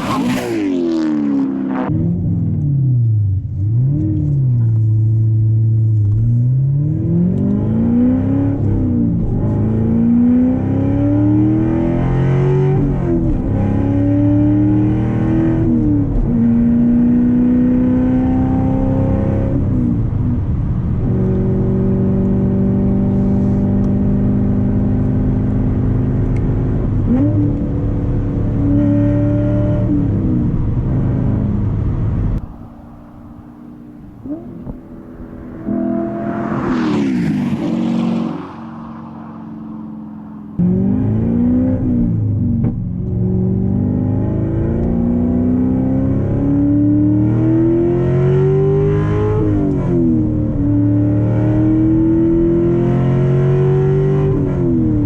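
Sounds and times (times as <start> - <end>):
car engine accelerating through gears: 0.0 - 55.0.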